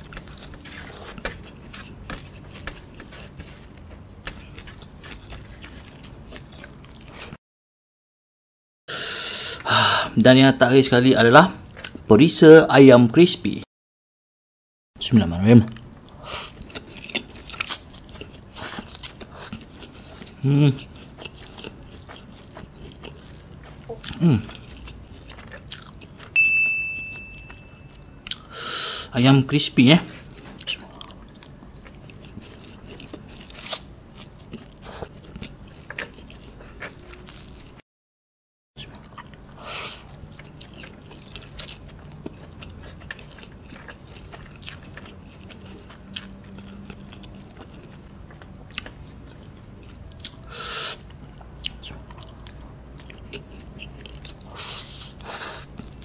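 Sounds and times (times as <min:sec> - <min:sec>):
person chewing noodles: 0:00.0 - 0:07.4, 0:11.6 - 0:12.0, 0:15.8 - 0:26.4, 0:27.2 - 0:29.1, 0:30.1 - 0:37.8, 0:38.8 - 0:56.0.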